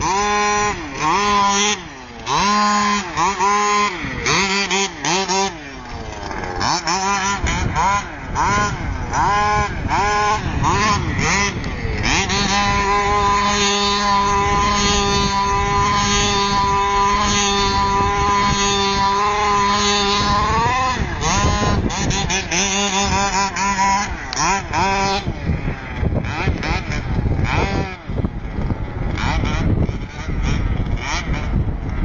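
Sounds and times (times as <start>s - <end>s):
small engine revving: 0.0s - 32.0s.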